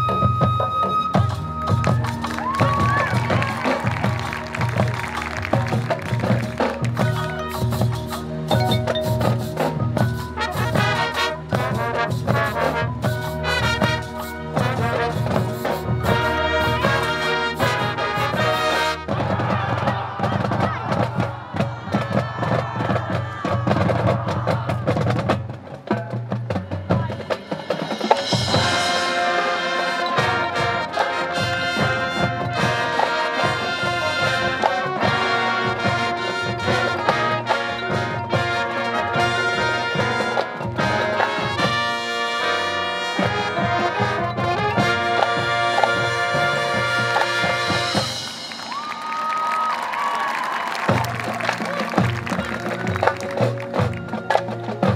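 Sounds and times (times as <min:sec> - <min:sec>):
marching band playing: 0:00.0 - 0:54.9.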